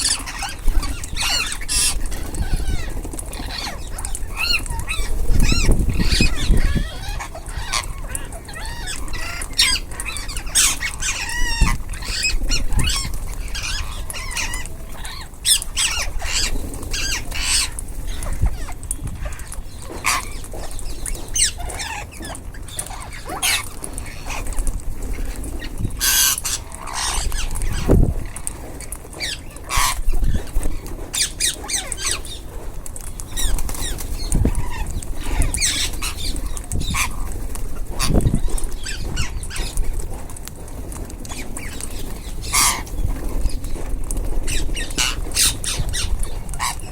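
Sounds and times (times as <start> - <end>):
parakeets squawking and chirping: 0.0 - 40.3, 41.2 - 46.9.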